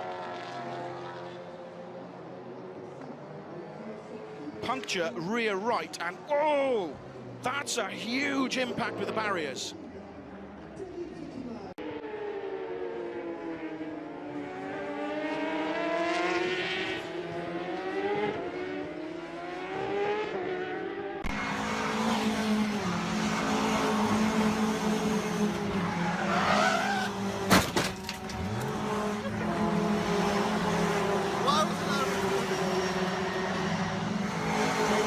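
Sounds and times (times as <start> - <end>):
racing car engines revving: 0.0 - 35.0.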